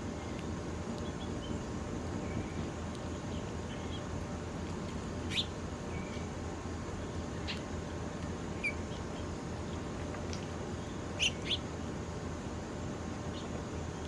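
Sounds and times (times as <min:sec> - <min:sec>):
small birds chirping: 0:00.2 - 0:07.9, 0:08.5 - 0:12.0, 0:13.2 - 0:14.0.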